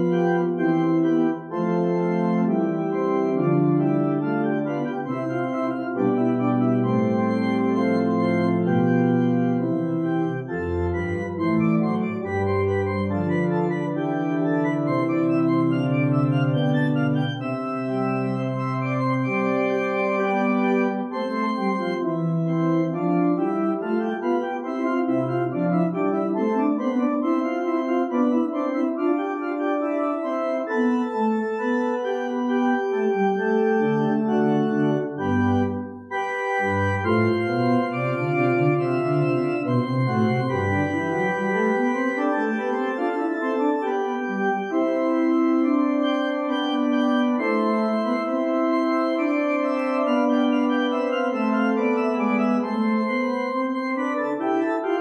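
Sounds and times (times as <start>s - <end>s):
deep organ bass notes: 0.0s - 55.0s
organ chords: 0.0s - 55.0s.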